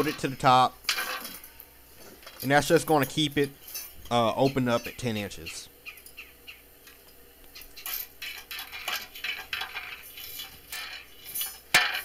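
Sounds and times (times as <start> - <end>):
metal clinking and scraping: 0.0 - 5.0, 6.8 - 12.0.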